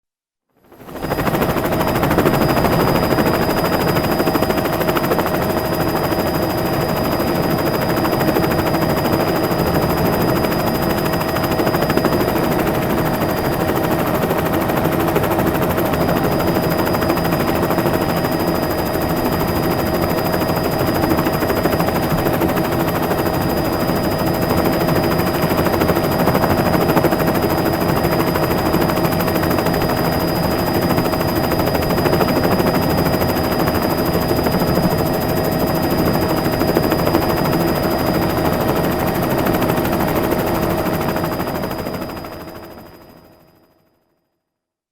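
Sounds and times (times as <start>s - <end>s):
helicopter rotor chop: 0.8s - 43.1s.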